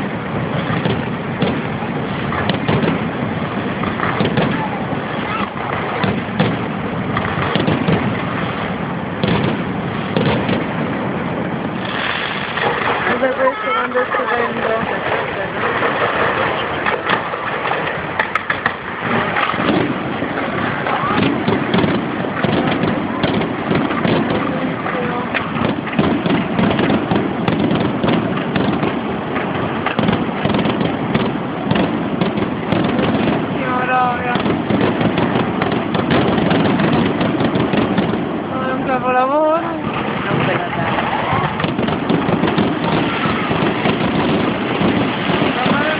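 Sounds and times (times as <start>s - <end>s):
fireworks crackling and rumbling: 0.0s - 45.9s
sharp firework bangs: 0.0s - 45.9s.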